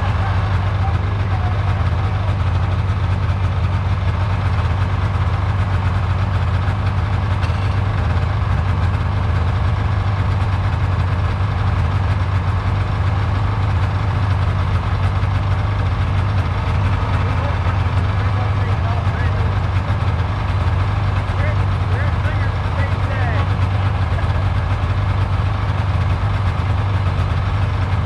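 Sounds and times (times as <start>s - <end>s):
snowmobile engines idling: 0.0s - 28.0s.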